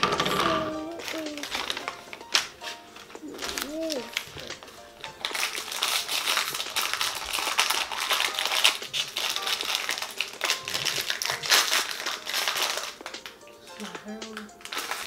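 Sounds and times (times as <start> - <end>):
crinkly packaging crackling: 0.0 - 15.0.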